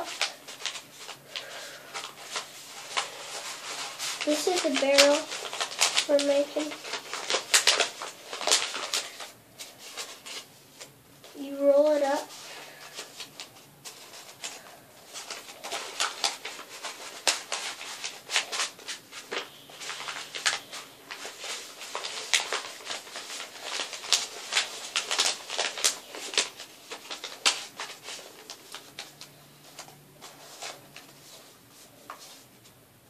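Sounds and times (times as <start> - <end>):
paper rustling and crinkling: 0.0 - 32.8.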